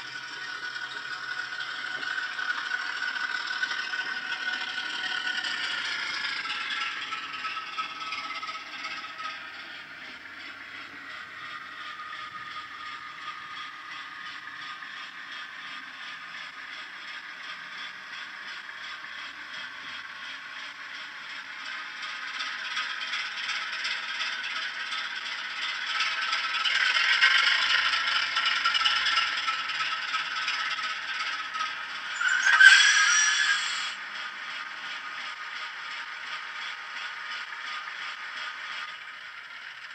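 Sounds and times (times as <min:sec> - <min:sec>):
model diesel engine chugging: 0:00.0 - 0:39.9.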